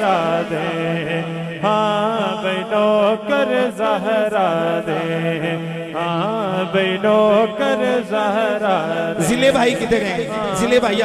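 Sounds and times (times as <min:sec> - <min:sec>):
men singing devotional chant: 0:00.0 - 0:11.0.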